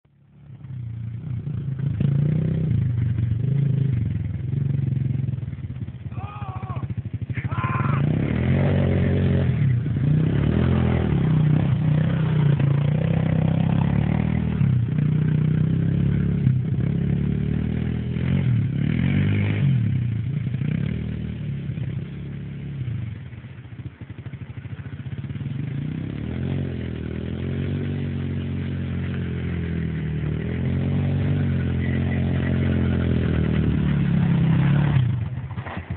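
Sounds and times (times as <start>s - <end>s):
quad bike engine revving: 0.6s - 35.9s.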